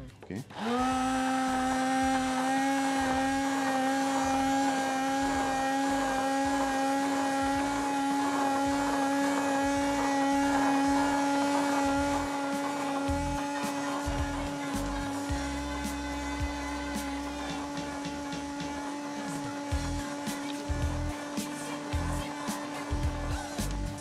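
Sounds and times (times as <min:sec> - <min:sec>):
hand blender motor whining: 0:00.5 - 0:24.0.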